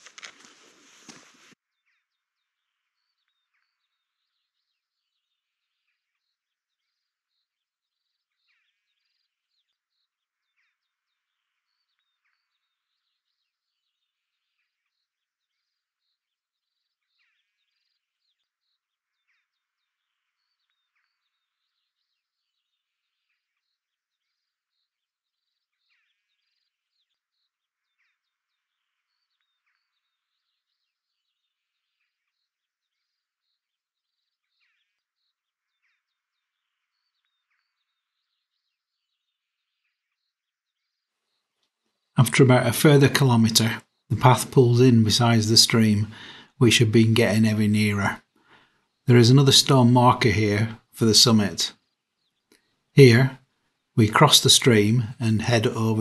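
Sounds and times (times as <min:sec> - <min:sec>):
faint bird chirps and trills: 0:00.0 - 0:56.0.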